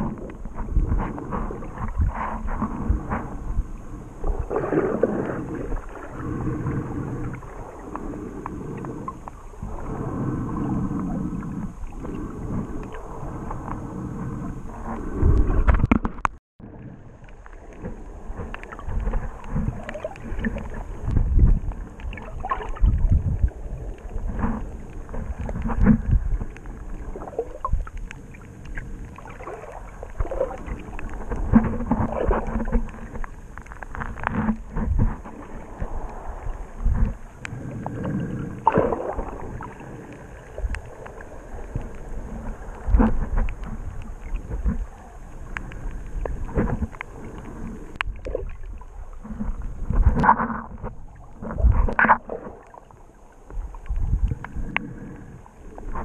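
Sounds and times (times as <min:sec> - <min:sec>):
muffled underwater water sloshing: 0:00.0 - 0:56.0.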